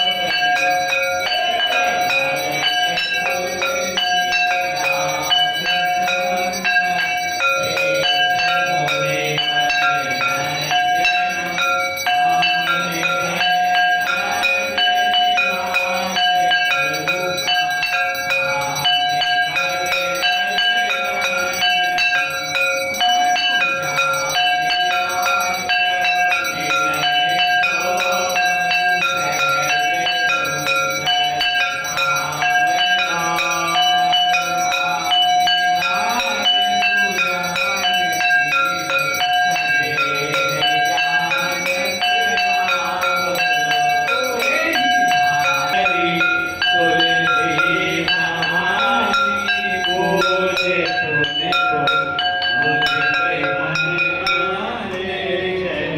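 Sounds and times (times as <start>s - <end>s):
temple bells ringing: 0.0s - 55.9s.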